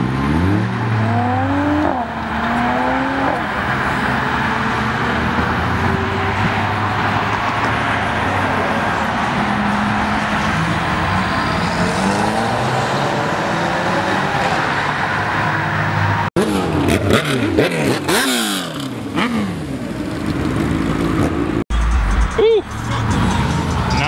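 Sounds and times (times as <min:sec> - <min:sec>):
car engines accelerating: 0:00.0 - 0:24.0
engines revving: 0:00.0 - 0:24.0.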